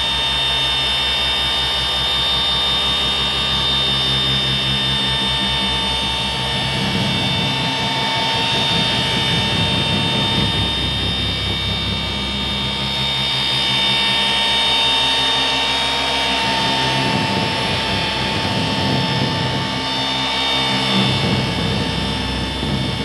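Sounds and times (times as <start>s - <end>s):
polisher whine: 0.0s - 23.0s.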